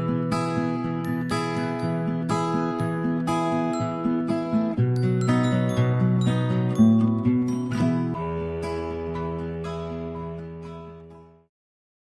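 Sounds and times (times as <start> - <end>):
gentle instrumental music: 0.0 - 11.5.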